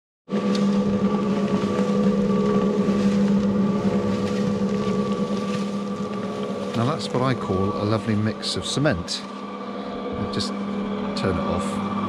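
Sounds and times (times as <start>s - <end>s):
cement mixer running: 0.3s - 12.0s.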